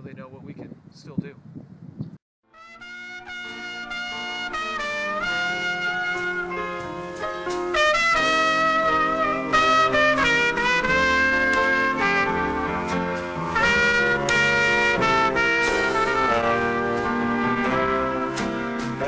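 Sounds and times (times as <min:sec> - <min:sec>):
jazz music with horns: 0:02.5 - 0:19.0.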